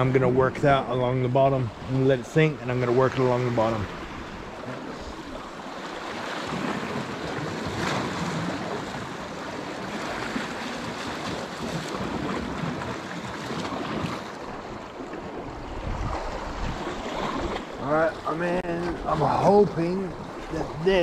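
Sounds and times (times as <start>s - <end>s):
sea surf washing in: 0.0s - 21.0s
wind buffeting microphone: 0.0s - 21.0s.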